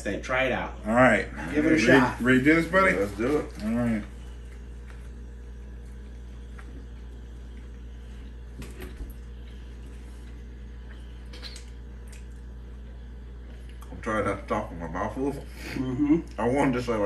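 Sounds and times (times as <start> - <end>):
steady low hum: 0.0 - 17.0
people chewing sandwiches: 1.3 - 14.0, 15.4 - 16.5.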